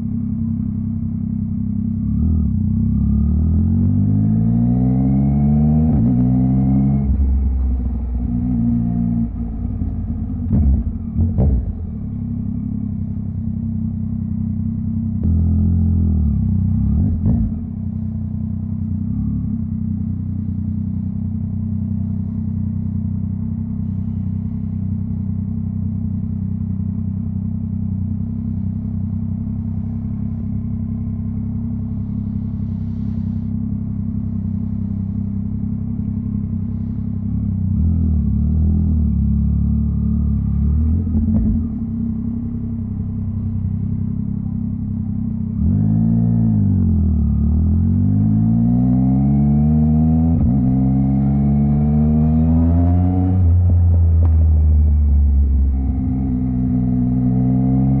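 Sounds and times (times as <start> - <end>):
motorcycle engine burbling: 0.0 - 51.4, 53.3 - 58.0.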